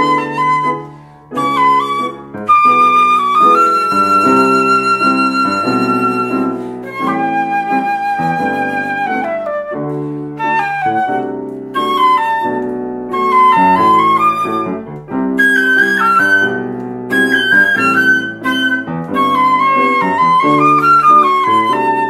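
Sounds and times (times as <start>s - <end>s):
flute playing slow melody: 0.0s - 22.0s.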